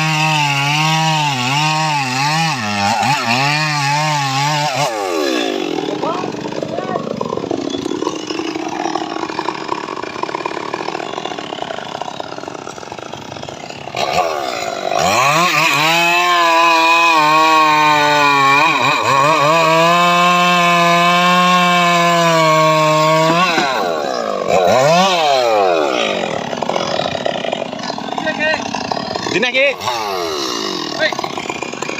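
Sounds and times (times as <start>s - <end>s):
sawing rig engine cutting log: 0.0s - 31.9s.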